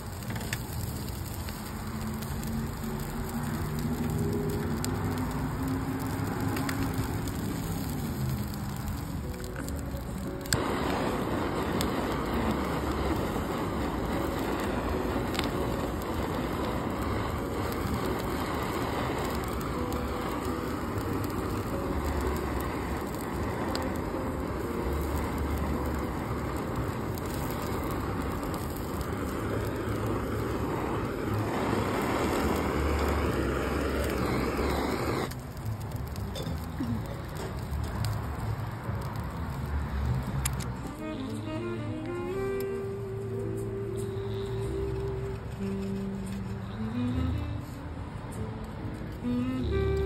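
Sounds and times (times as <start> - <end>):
blowtorch hissing: 0.0 - 48.5, 49.1 - 50.0.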